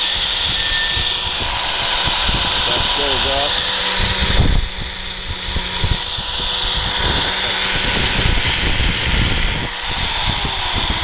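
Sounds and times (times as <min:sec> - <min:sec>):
angle grinder sanding metal: 0:00.0 - 0:11.0.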